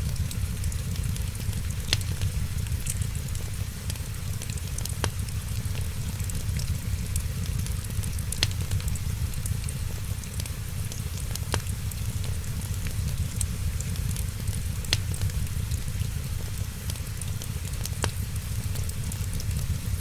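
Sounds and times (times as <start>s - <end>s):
low rumble and hiss: 0.0s - 20.0s
wood fire crackling and popping: 0.0s - 20.0s.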